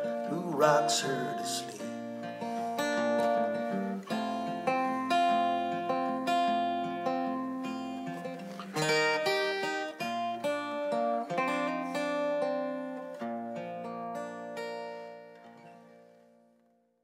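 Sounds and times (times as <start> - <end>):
acoustic guitar strumming: 0.0 - 16.7.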